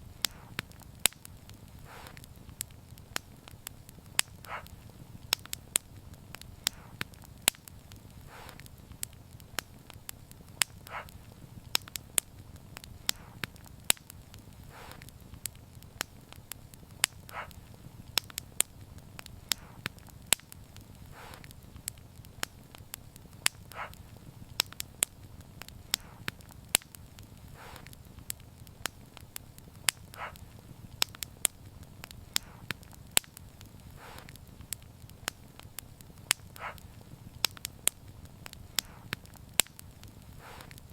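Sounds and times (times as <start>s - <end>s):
low rumble of flame: 0.0s - 40.9s
soft hiss: 0.0s - 40.9s
wood fire crackling and popping: 0.0s - 40.9s.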